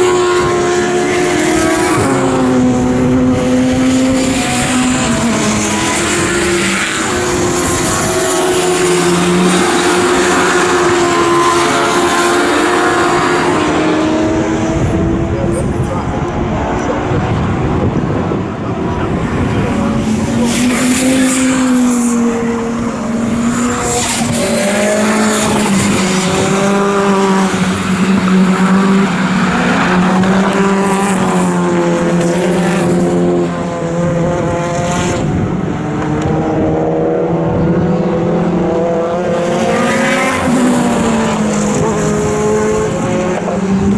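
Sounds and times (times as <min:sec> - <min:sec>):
racing car engines: 0:00.0 - 0:43.9.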